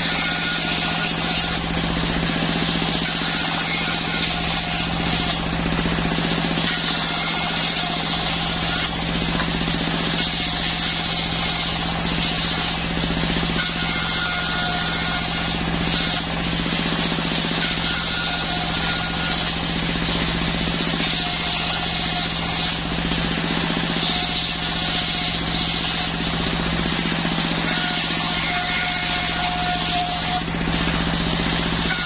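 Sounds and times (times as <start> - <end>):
circular wood saw drone: 0.0 - 32.0.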